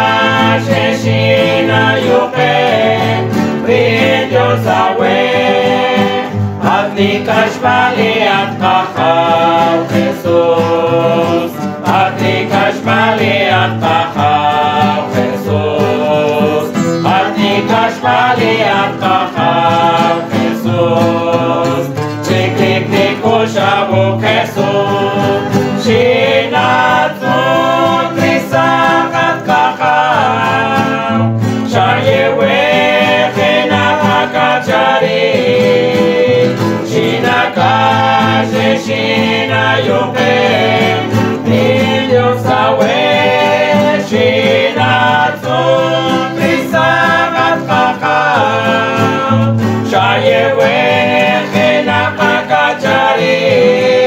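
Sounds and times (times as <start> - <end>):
men and women singing together: 0.0 - 54.0
strummed acoustic guitars: 0.0 - 54.0.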